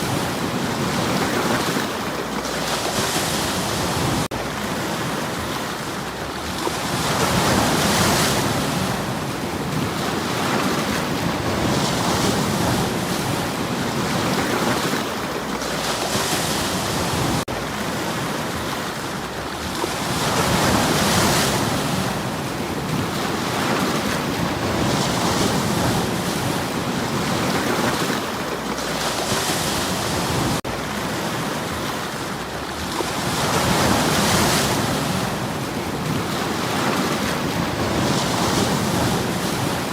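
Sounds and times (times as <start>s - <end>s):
waves washing onto stony shore: 0.0s - 39.9s.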